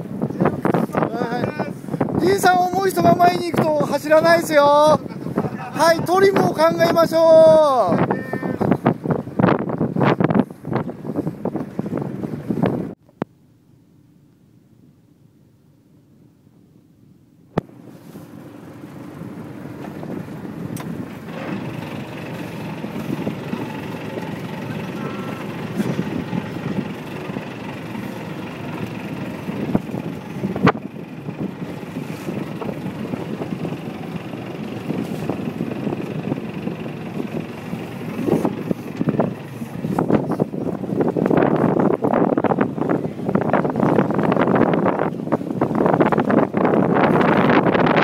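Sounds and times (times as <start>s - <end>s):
wind on microphone: 0.0s - 13.3s, 17.5s - 48.0s
water rushing along boat: 0.0s - 48.0s.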